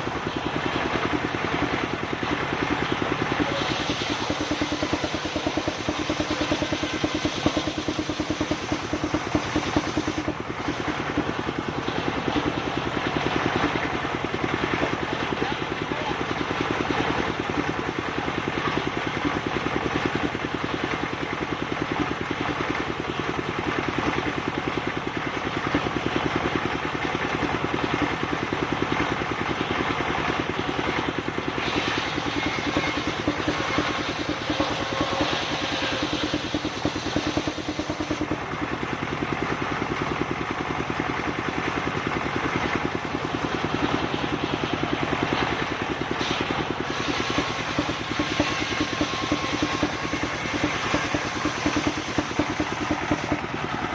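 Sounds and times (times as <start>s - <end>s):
sawmill engine pulsing: 0.0s - 53.9s.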